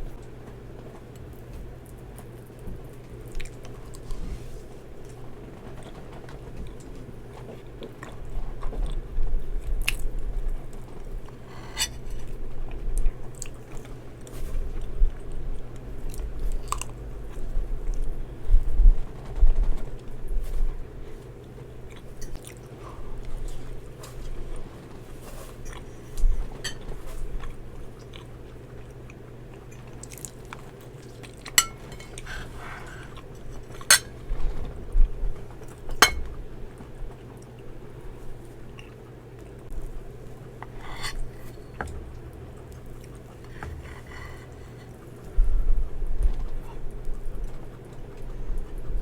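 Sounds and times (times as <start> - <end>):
soft chewing and mouth sounds: 0.0 - 49.0.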